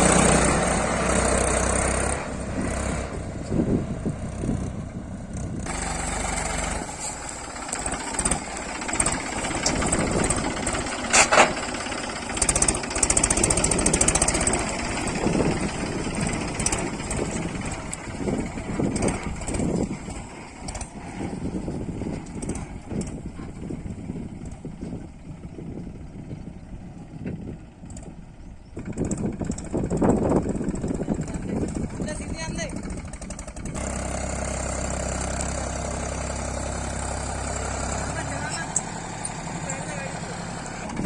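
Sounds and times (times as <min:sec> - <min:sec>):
heavy diesel machinery running: 0:00.0 - 0:41.0.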